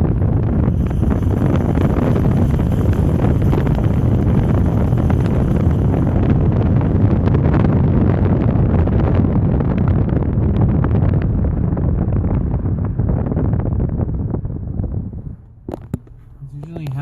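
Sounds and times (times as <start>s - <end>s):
car road noise: 0.0s - 17.0s
wind buffeting microphone: 0.0s - 17.0s.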